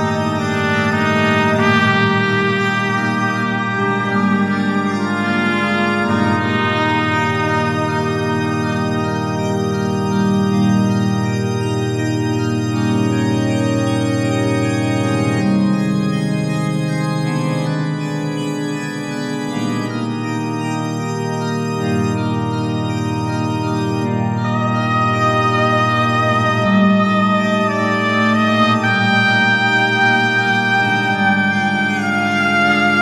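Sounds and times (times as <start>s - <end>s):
slow organ chords: 0.0s - 33.0s.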